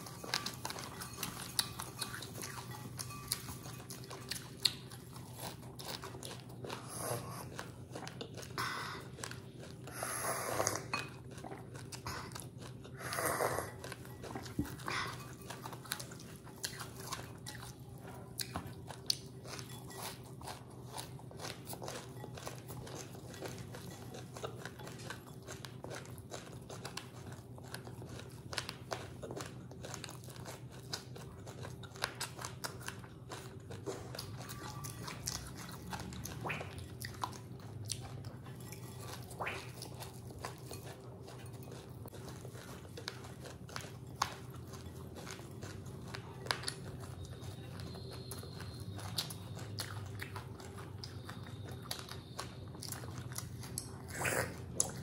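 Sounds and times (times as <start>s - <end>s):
crunching and chewing puffed rice: 0.0s - 55.0s.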